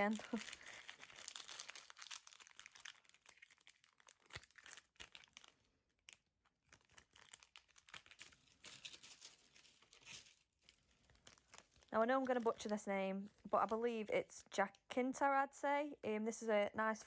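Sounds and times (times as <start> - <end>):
plastic bag and foil crinkling: 0.0 - 15.3.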